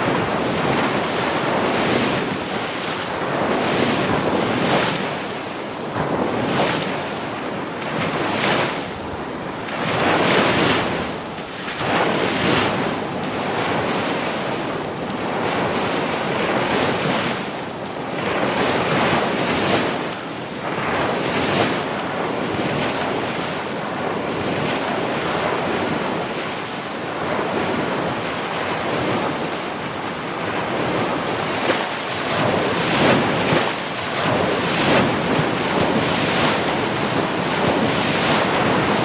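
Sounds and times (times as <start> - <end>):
ocean waves breaking: 0.0 - 39.0.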